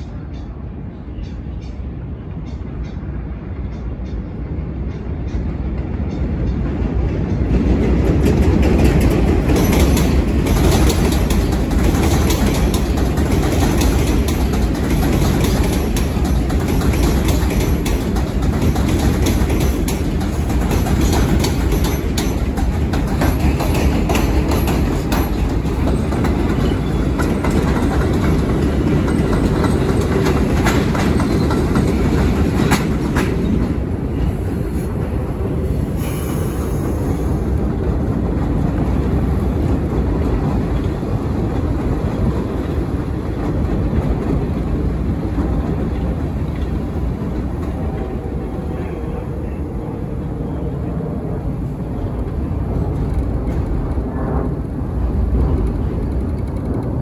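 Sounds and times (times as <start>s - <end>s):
subway train wheels clattering: 0.0s - 57.0s.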